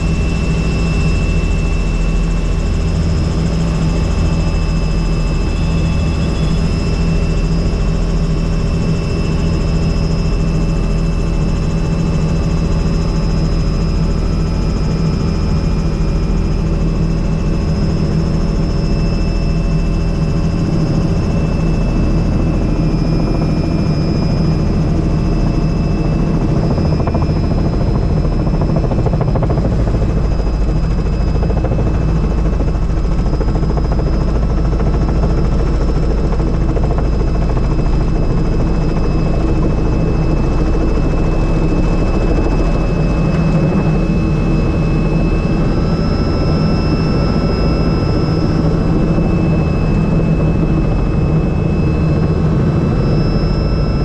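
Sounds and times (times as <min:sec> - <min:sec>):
helicopter rotor and engine noise: 0:00.0 - 0:54.0
high whine: 0:00.0 - 0:54.0.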